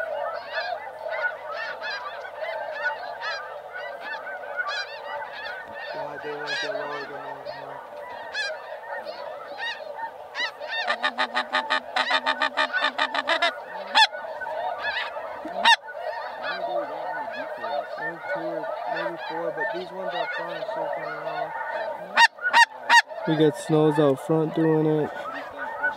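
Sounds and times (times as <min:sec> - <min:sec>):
geese honking: 0:00.0 - 0:25.9.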